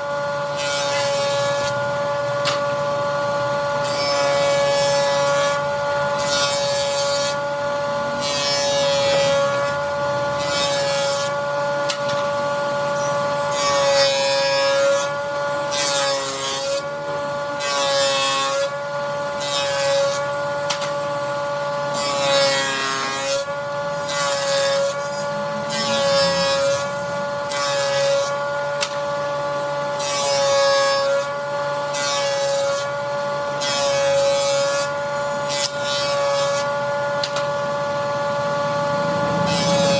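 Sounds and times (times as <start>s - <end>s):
rasping wood cutting: 0.0s - 37.8s, 39.3s - 39.9s
power tool motor whine: 0.0s - 39.9s.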